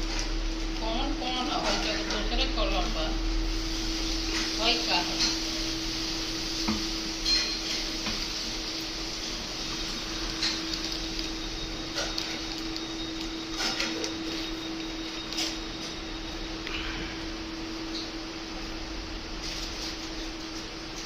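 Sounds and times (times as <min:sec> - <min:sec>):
aquarium pump humming: 0:00.0 - 0:21.0.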